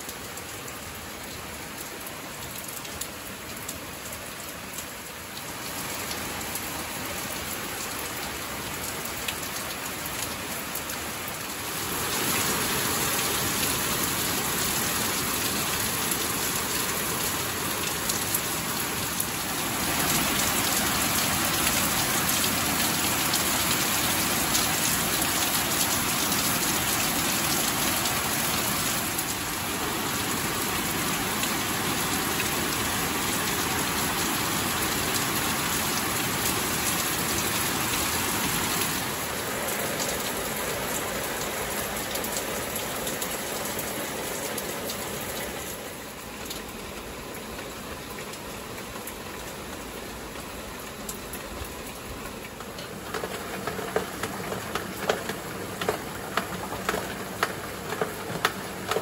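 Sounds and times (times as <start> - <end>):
heavy rain on leaves: 0.0 - 59.0.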